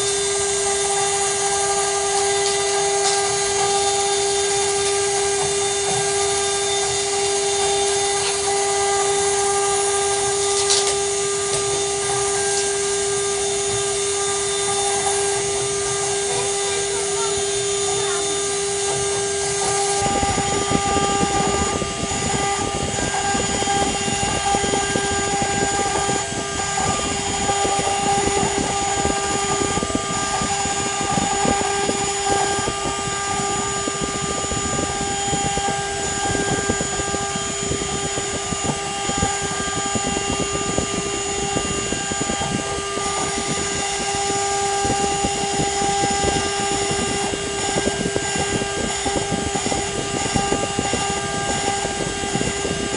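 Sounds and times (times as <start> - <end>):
bit scratching copper board: 0.0 - 52.9
spindle motor running: 0.0 - 52.9.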